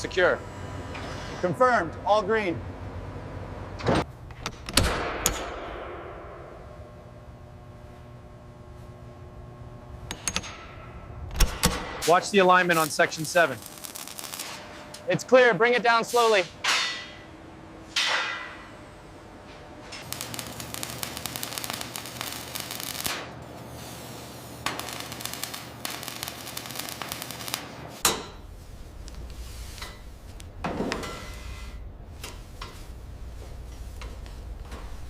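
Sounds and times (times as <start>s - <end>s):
low hum: 0.3s - 15.2s, 18.6s - 35.0s.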